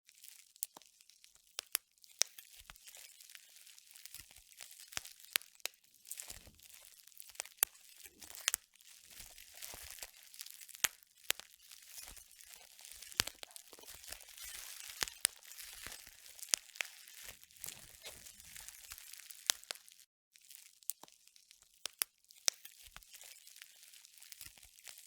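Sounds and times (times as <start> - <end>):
bubble wrap popping: 0.2 - 25.0
plastic crinkling: 2.2 - 25.0.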